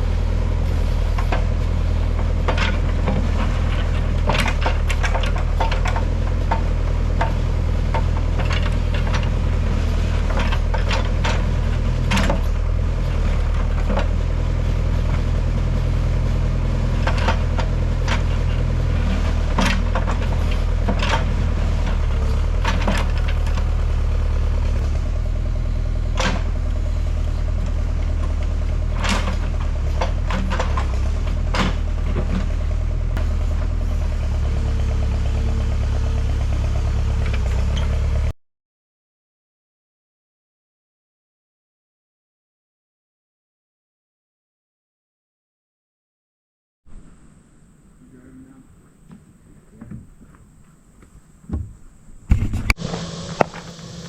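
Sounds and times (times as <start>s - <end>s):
tractor engine under load: 0.0s - 38.3s, 46.9s - 54.0s.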